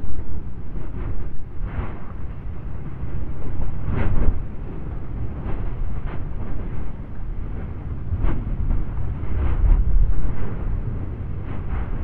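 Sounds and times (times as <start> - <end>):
deep thunderous volcanic rumble: 0.0 - 12.0.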